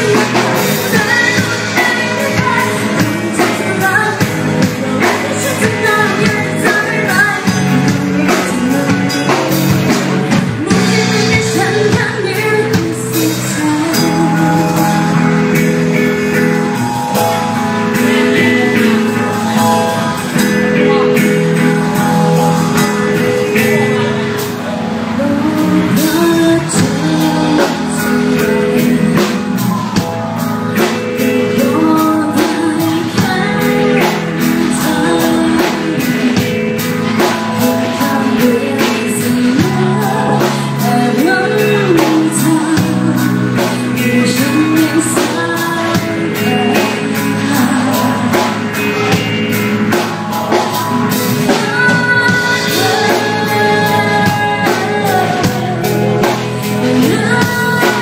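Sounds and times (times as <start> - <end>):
drum kit: 0.0 - 58.0
electric guitars: 0.0 - 58.0
woman singing into microphone: 0.0 - 58.0.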